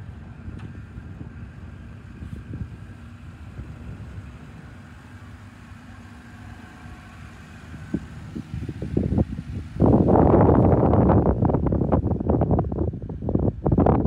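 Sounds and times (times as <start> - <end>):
truck engine running slowly: 0.0 - 14.0
wind buffeting microphone: 0.0 - 14.0.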